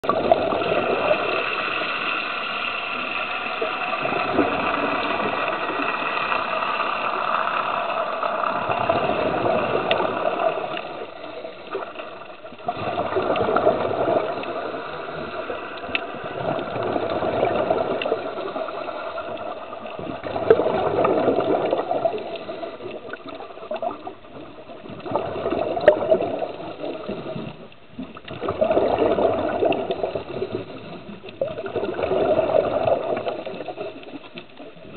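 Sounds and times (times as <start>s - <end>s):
muffled underwater rushing: 0.0s - 34.9s
faint clicks: 2.1s - 32.2s.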